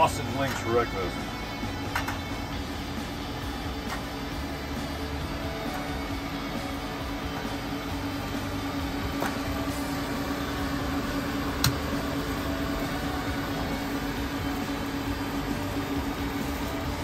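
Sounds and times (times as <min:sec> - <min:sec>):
range hood fan humming: 0:00.0 - 0:17.0.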